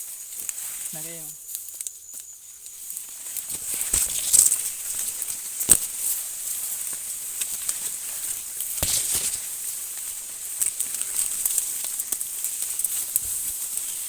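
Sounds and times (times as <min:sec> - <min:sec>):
dry leaves rustling underfoot: 0:00.0 - 0:14.0
high-pitched hiss: 0:00.0 - 0:14.0.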